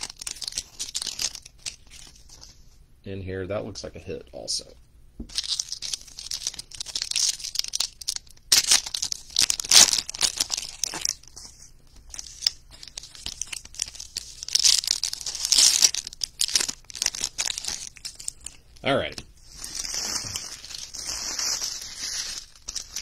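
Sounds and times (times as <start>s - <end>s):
card pack wrappers tearing and crinkling: 0.0s - 2.5s, 5.3s - 23.0s.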